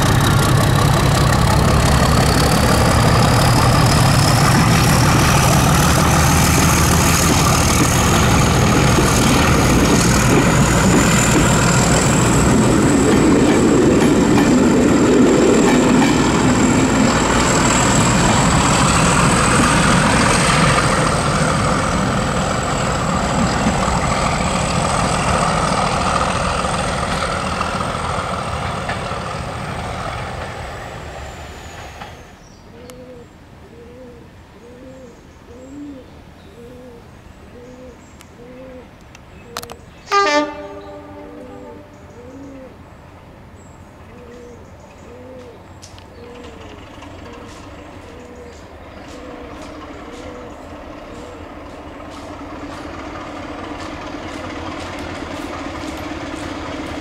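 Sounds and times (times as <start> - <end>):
train coaches rolling past: 0.0 - 32.7, 40.0 - 57.0
diesel locomotive engine whine: 0.0 - 34.6, 35.7 - 57.0.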